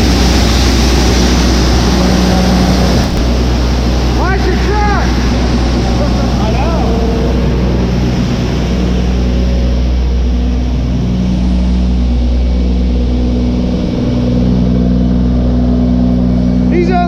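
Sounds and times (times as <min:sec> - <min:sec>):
large engine droning: 0:00.0 - 0:17.0.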